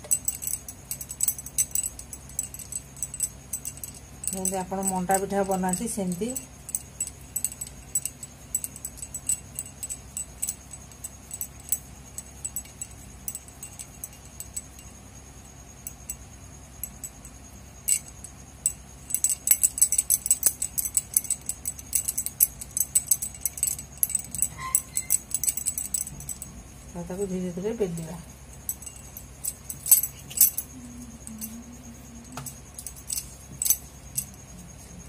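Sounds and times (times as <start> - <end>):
bangles clinking: 0.0 - 35.0.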